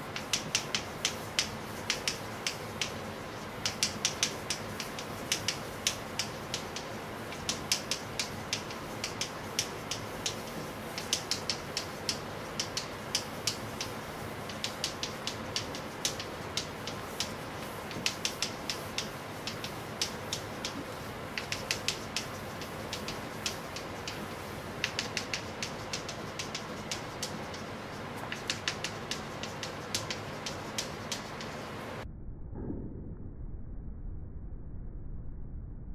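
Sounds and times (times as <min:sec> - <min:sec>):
chalk tapping on chalkboard: 0:00.0 - 0:32.0
faint steady hum: 0:00.0 - 0:35.9.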